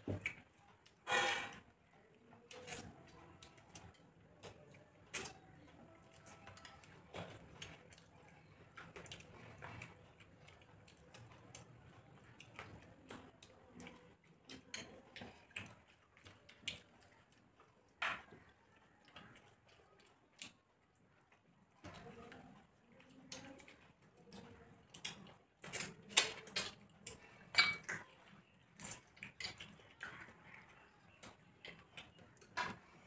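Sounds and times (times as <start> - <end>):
chewing and mouth smacks: 0.0 - 1.0, 1.6 - 33.0
fingers mixing rice on plates: 0.0 - 33.0.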